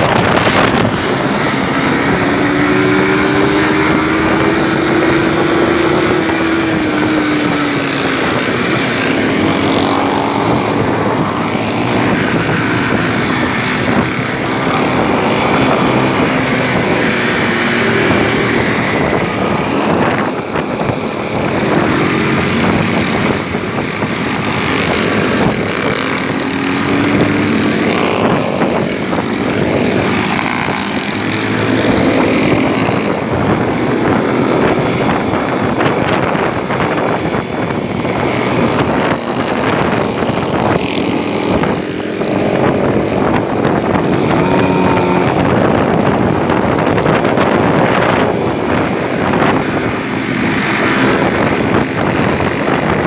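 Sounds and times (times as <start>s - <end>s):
motorcycle engine revving: 0.0s - 53.0s
wind rushing over microphone: 0.0s - 53.0s.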